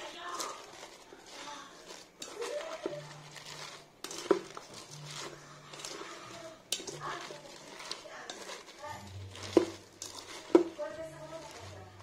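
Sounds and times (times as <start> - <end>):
salad leaves rustling: 0.0 - 12.0.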